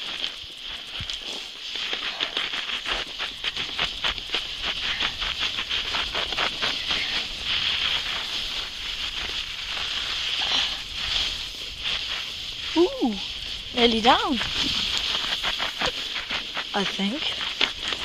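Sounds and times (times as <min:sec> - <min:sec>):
sledge runners scraping snow: 0:00.0 - 0:18.0.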